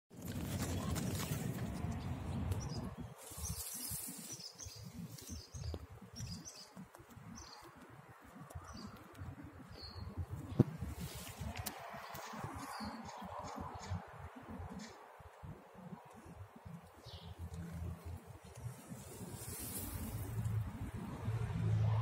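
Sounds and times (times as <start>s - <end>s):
birds chirping: 0.4s - 20.3s.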